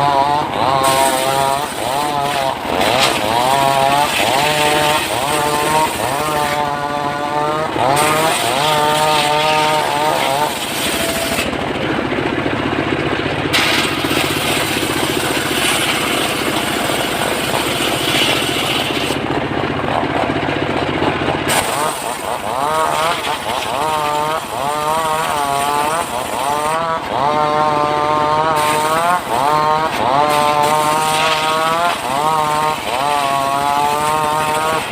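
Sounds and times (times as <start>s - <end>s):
saw cutting wood: 0.0s - 34.9s
saw engine running: 0.0s - 34.9s.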